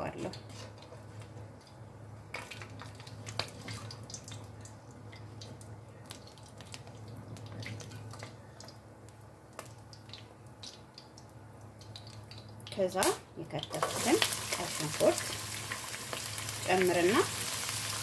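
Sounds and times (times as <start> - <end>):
low steady hum: 0.0 - 18.0
spices crackling in hot oil: 0.1 - 18.0.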